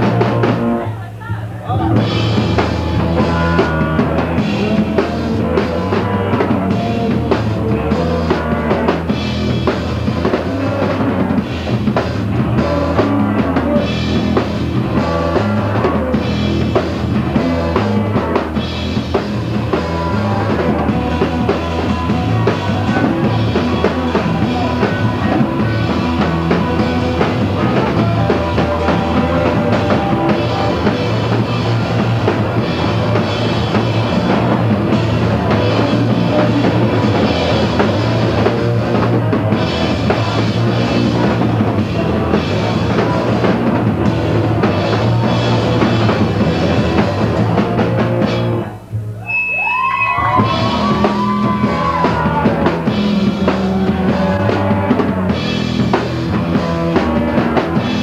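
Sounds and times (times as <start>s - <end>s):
live rock band playing: 0.0s - 58.0s
pounding drum kit: 0.0s - 58.0s.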